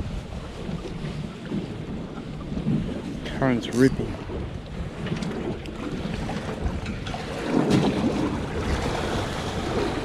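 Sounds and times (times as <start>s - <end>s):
water sloshing against hull: 0.0s - 10.0s
wind buffeting microphone: 0.0s - 10.0s.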